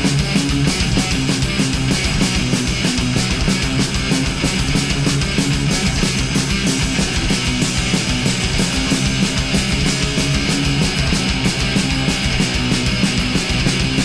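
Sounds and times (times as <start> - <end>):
electric guitars: 0.0 - 14.0
fast drumming: 0.0 - 14.0.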